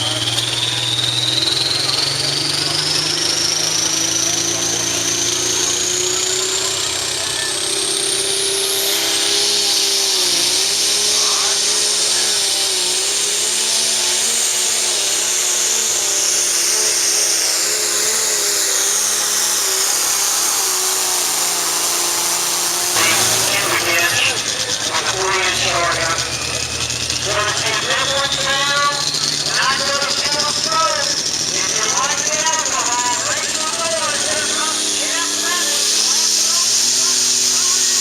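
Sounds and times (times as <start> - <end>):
high turbo whine: 0.0 - 38.0
tractor engine at full throttle: 0.0 - 38.0.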